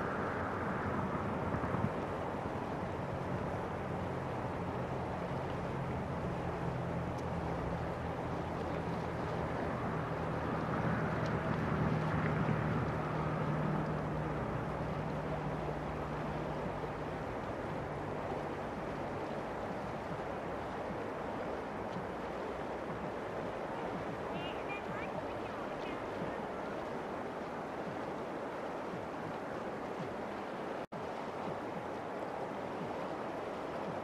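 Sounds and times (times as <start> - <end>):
river water rushing over stones: 0.0 - 34.0.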